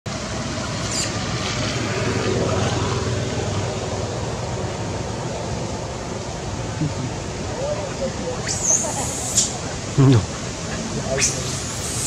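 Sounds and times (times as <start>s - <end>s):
low rumbling background noise: 0.1s - 12.0s.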